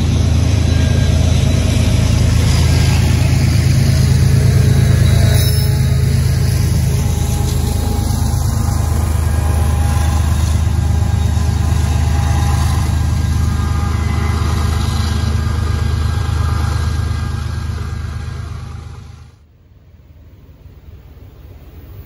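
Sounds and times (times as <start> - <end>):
large engine rumbling: 0.0 - 22.0.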